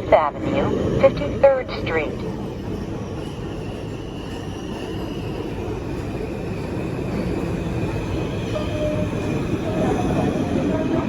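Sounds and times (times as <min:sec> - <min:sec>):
subway train rumbling on rails: 0:00.0 - 0:11.0.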